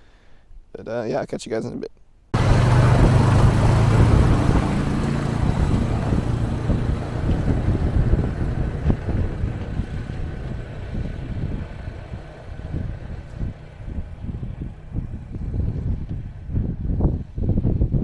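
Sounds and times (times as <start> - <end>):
atv engine running: 2.4 - 17.9.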